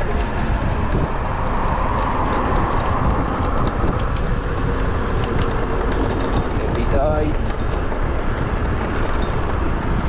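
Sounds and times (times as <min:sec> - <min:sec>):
road traffic: 0:00.0 - 0:10.0
wind rushing over microphone: 0:00.0 - 0:10.0.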